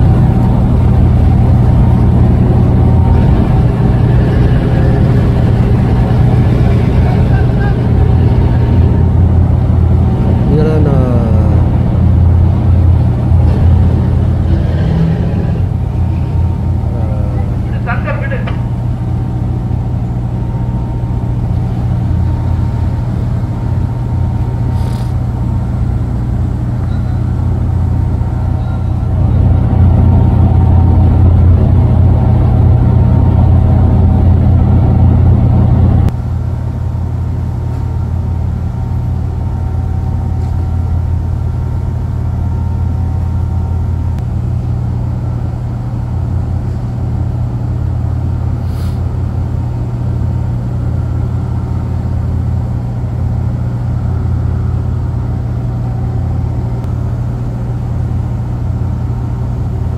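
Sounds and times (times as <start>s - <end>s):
deck machinery: 0.0s - 59.9s
marine engines droning: 0.0s - 59.9s.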